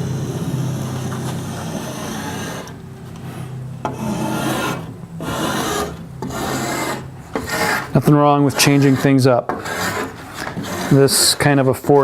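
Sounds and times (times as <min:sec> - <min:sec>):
edge tool shaving wood: 0:00.5 - 0:02.8, 0:03.9 - 0:11.9.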